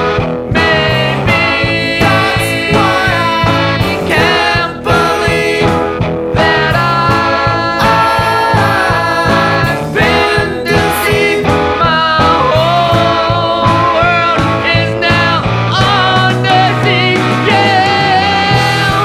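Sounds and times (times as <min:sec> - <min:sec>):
rock song with vocals: 0:00.0 - 0:19.0.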